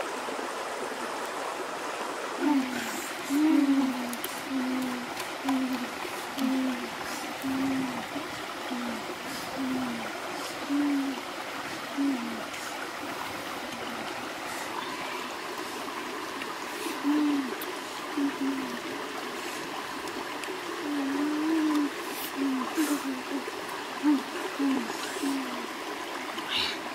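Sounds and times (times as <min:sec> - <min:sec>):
stream running over stones: 0:00.0 - 0:26.9.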